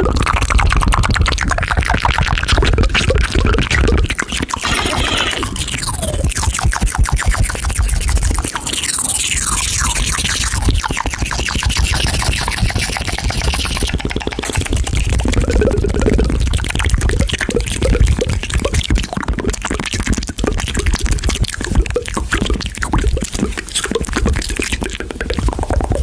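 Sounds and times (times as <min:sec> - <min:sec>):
rapid clicking and scratching: 0:00.0 - 0:26.0.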